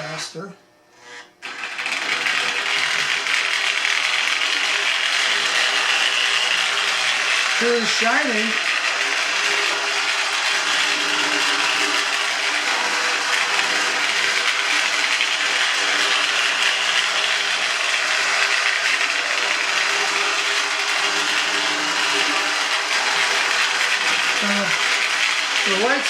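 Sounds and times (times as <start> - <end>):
toy train motor whirring: 0.0 - 26.0
wheels rolling on rails: 1.4 - 26.0.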